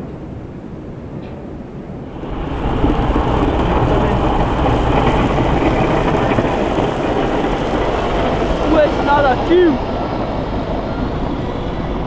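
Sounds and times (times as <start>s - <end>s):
jet engines rumbling and hissing: 1.0s - 12.0s.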